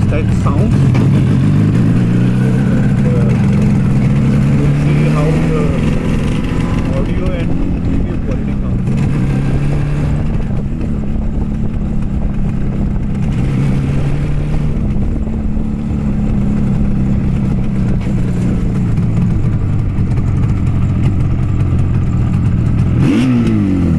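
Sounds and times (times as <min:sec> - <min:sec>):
two-stroke motorcycle engine running: 0:00.0 - 0:23.9.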